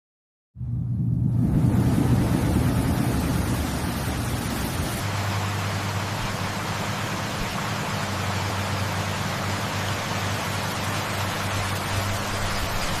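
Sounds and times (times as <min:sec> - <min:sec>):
machine humming and hissing: 0:00.6 - 0:13.0.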